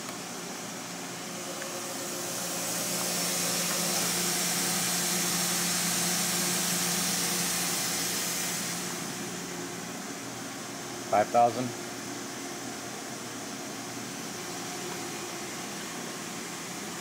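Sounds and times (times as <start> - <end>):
machine spindle humming and hissing: 0.0 - 17.0.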